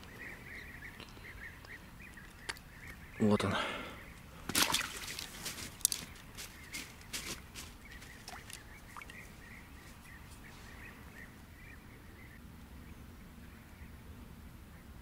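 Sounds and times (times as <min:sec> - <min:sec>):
bird chirping: 0:00.0 - 0:04.3, 0:06.0 - 0:14.0.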